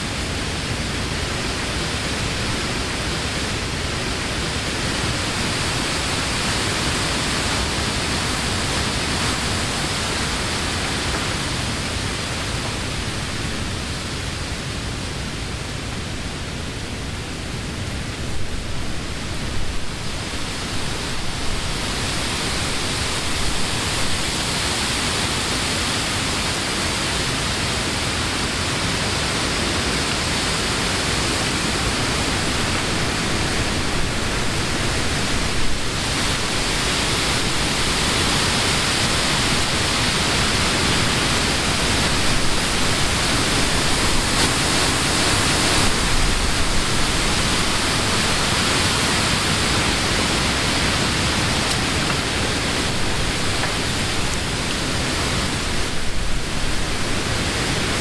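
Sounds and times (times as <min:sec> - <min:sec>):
wind rushing through leaves: 0:00.0 - 0:58.0.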